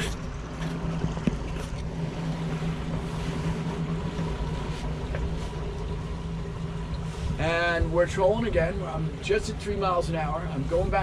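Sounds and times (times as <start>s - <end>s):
outboard motors humming: 0.0s - 11.0s
water noise: 0.0s - 11.0s
wind: 0.0s - 11.0s.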